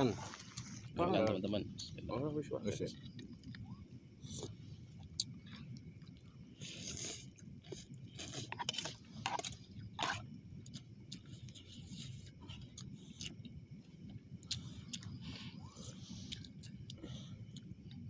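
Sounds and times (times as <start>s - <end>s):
people chewing noodles: 0.1s - 1.9s, 2.8s - 18.0s.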